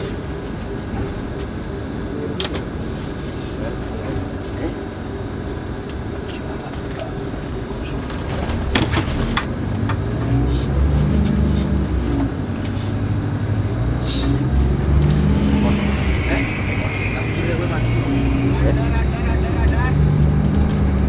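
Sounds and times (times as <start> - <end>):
coach engine from inside cabin: 0.0 - 21.0.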